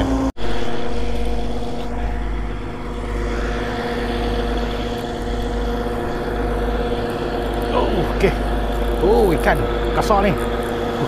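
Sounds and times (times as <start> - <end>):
machine engine humming: 0.0 - 11.0.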